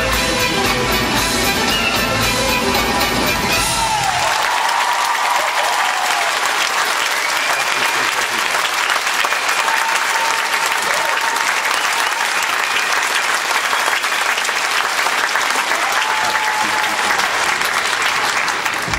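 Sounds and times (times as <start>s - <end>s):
audience applauding: 2.6s - 18.9s.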